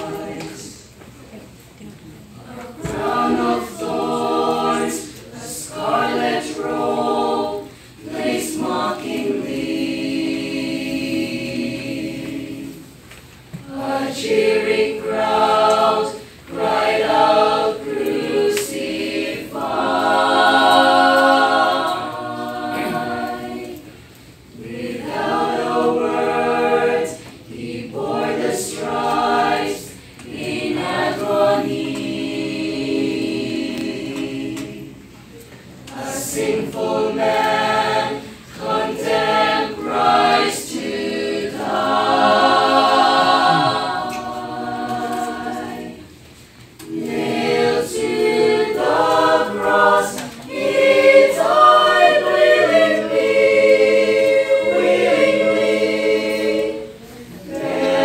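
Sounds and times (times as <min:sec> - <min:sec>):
choir singing a hymn: 0:00.0 - 0:01.2, 0:02.3 - 0:58.0.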